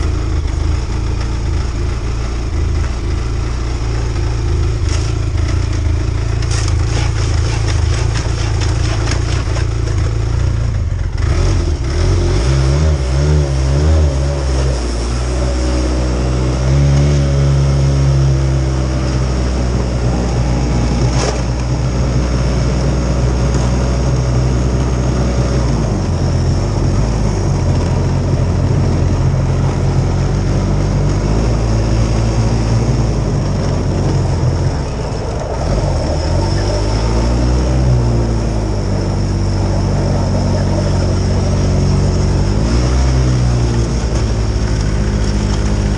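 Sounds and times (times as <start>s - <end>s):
snowmobile engine idling: 0.0s - 45.9s.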